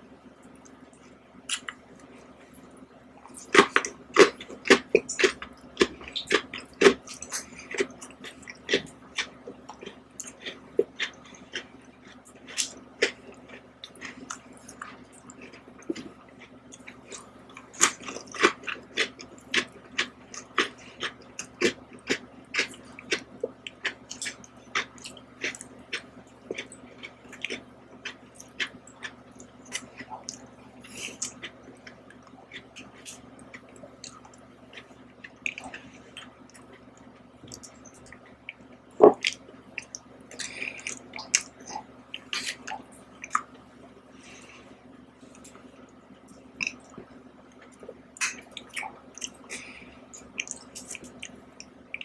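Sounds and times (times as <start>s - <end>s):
chewing and mouth sounds: 0.4s - 52.0s.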